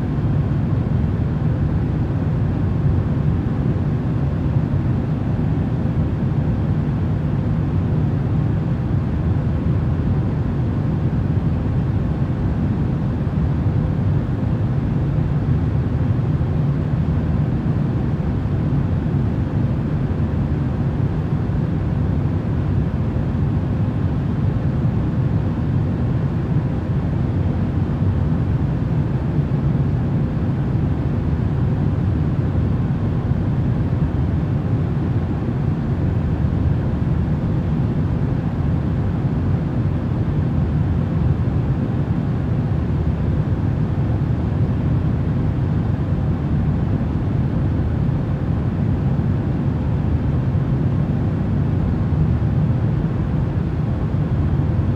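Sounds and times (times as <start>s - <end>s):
faint steady hums: 0.0s - 54.9s.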